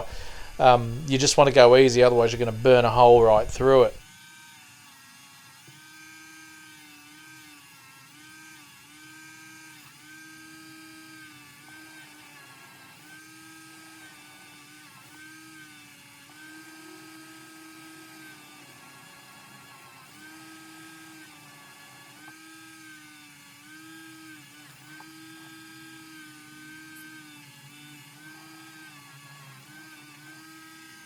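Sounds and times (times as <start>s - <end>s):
rotary tool whining: 0.0s - 31.0s.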